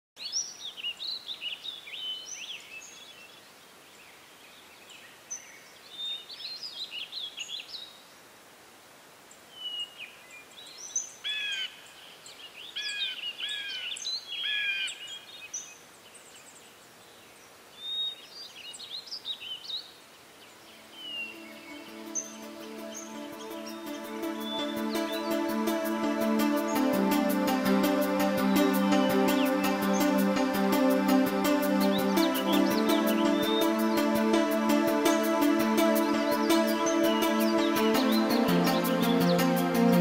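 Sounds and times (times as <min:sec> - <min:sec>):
birds singing: 0:00.2 - 0:08.0, 0:09.4 - 0:40.0
faint steady hiss: 0:00.2 - 0:40.0.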